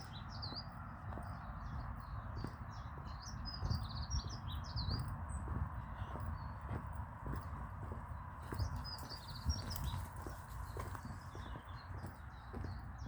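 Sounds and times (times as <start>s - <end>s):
footsteps on a path: 0.0s - 13.0s
songbird chirping: 0.0s - 13.0s.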